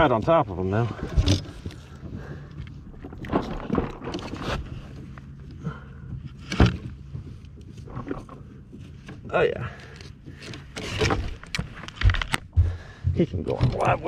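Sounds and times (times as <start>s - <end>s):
boat motor humming: 0.6s - 14.0s.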